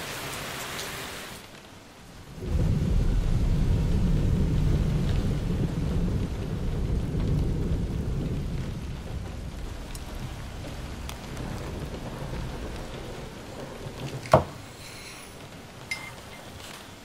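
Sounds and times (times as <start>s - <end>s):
low rumbling: 2.1s - 16.7s.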